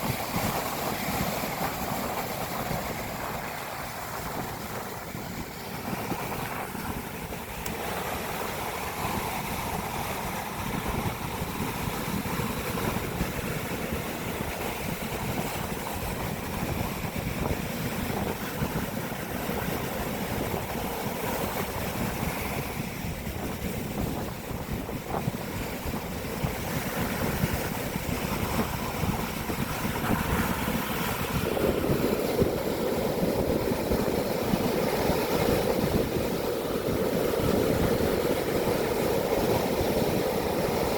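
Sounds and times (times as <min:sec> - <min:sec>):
sea surf: 0:00.0 - 0:40.9
wind buffeting microphone: 0:00.0 - 0:40.9.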